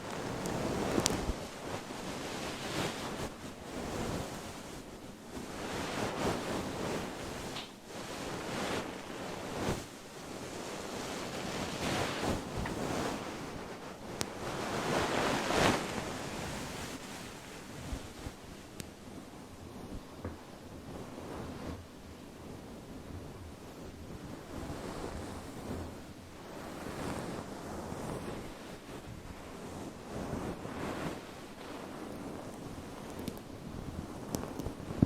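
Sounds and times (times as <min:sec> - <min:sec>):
fur windscreen rustling: 0:00.0 - 0:18.6, 0:23.7 - 0:35.0.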